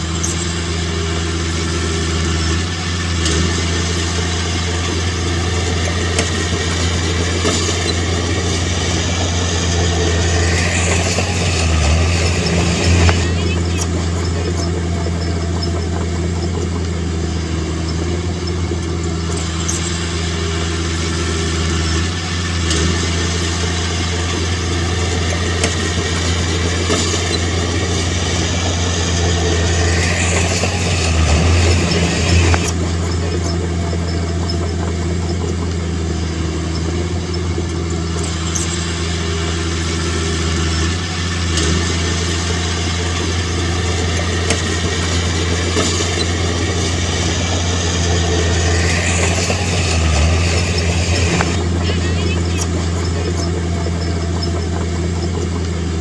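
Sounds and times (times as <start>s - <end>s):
heavy machinery diesel engine running: 0.0s - 56.0s.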